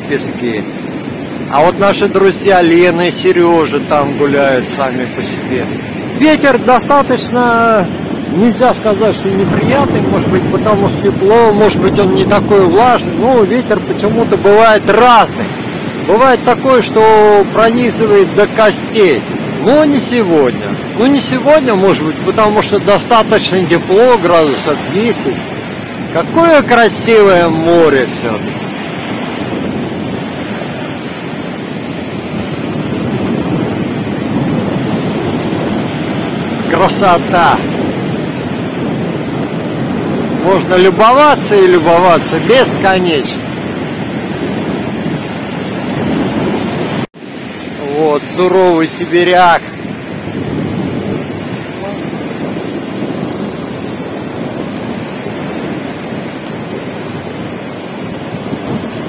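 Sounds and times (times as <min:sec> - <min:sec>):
surf breaking on beach: 0:00.0 - 0:59.0
wind buffeting microphone: 0:00.0 - 0:59.0.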